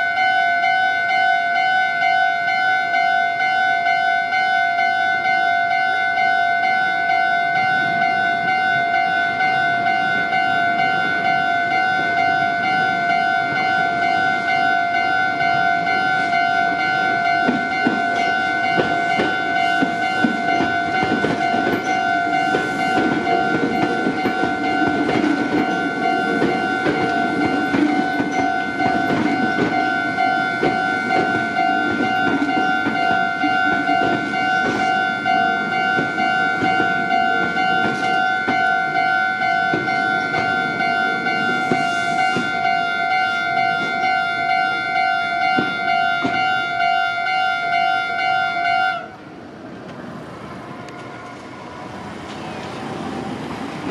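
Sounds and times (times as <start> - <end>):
two-tone level crossing bell: 0.0 - 49.0
train rumble and wheel clatter: 0.0 - 53.9.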